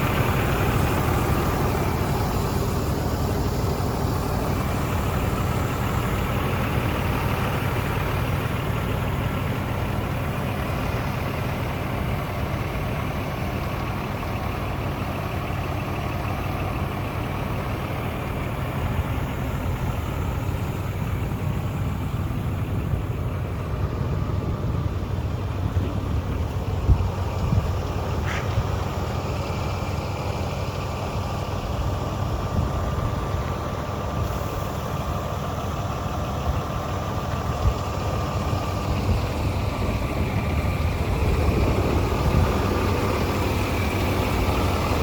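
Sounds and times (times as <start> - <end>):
truck diesel engine idling: 0.0 - 45.0.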